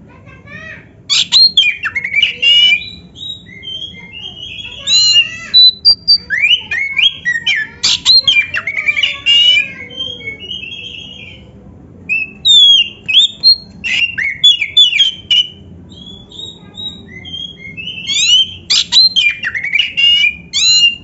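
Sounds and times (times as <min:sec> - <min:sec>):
bird singing: 0:01.1 - 0:21.0.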